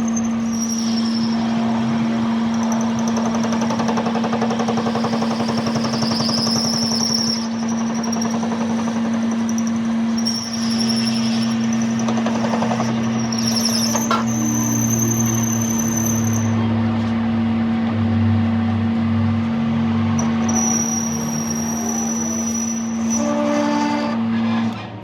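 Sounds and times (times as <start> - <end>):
workshop machine humming and rattling: 0.0 - 25.0.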